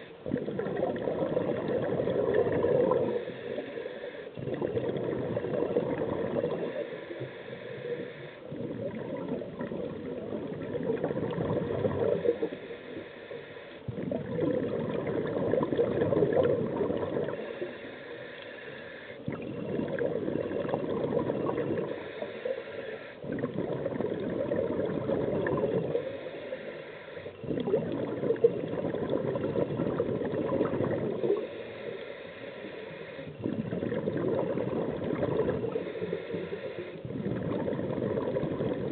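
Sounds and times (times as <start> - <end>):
scuba regulator bubbling underwater: 0.0 - 3.7, 4.4 - 7.3, 7.9 - 12.6, 13.9 - 17.8, 19.2 - 22.6, 23.2 - 26.3, 27.3 - 31.5, 33.3 - 38.9.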